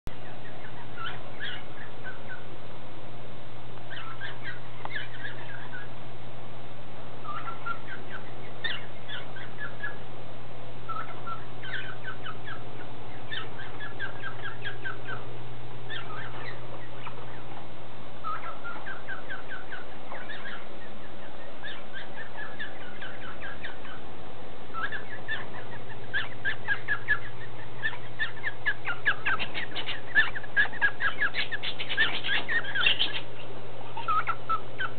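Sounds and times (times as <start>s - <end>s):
steady low hum: 0.0s - 34.9s
birds chirping: 0.1s - 2.9s, 3.6s - 6.3s, 7.0s - 34.9s.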